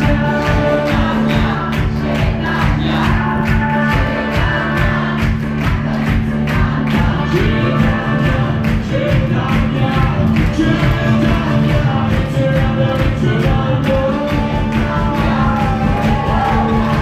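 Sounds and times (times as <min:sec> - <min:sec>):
live band playing: 0:00.0 - 0:17.0
people singing: 0:00.0 - 0:17.0.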